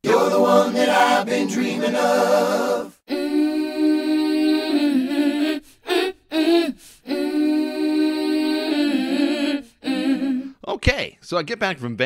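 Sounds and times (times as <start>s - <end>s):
a cappella vocal jingle: 0.0s - 10.6s.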